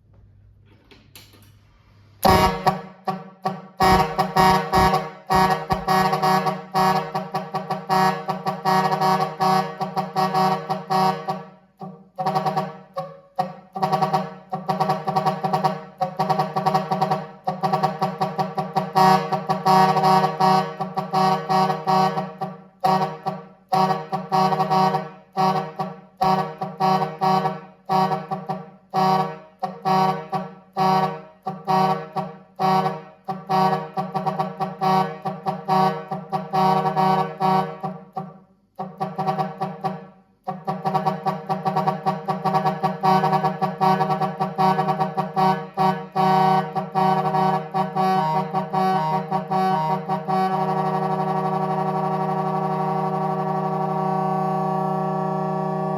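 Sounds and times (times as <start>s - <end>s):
musical air horn tune: 2.0s - 55.9s.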